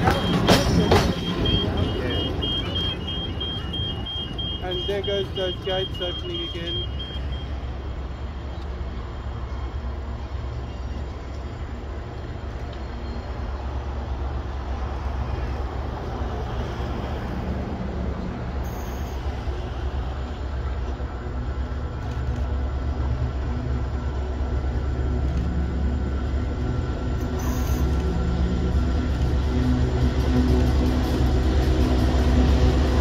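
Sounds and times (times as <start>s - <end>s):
diesel locomotive engine drone: 0.0s - 33.0s
rail noise: 0.0s - 33.0s.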